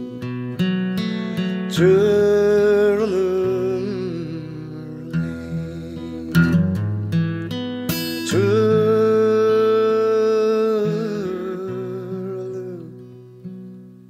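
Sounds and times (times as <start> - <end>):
plucked acoustic guitar: 0.0 - 14.0.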